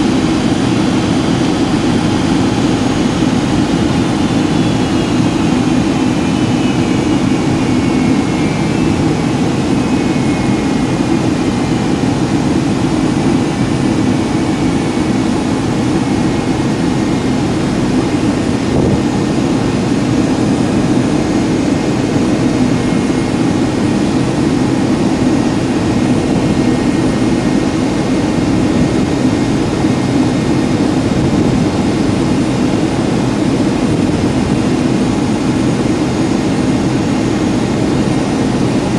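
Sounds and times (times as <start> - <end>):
engine and airflow roar: 0.0 - 38.9
faint high whine: 0.0 - 38.9.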